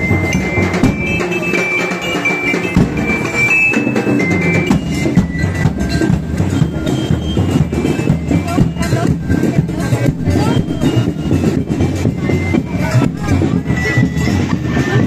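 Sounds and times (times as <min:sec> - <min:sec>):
drums beaten with mallets: 0:00.0 - 0:15.0
high held notes: 0:00.0 - 0:15.0.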